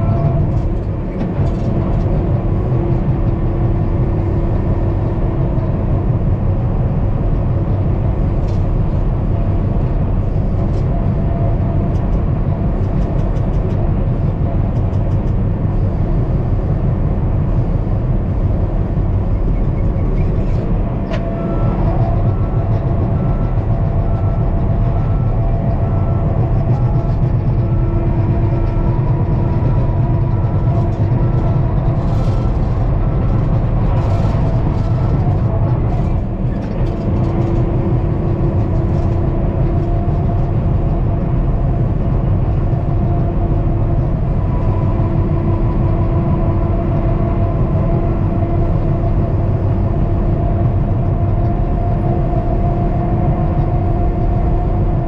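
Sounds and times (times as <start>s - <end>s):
diesel engine working: 0.0s - 55.0s
track clatter: 0.0s - 55.0s.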